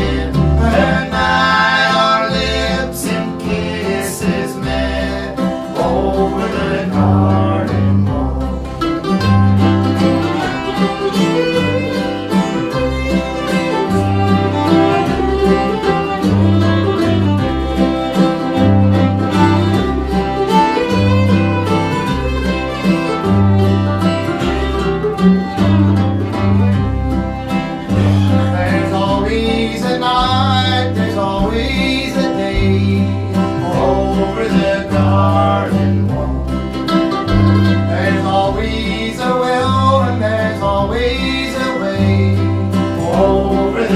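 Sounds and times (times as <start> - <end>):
bass: 0.0 - 43.9
fiddle: 0.0 - 43.9
guitar: 0.0 - 43.9.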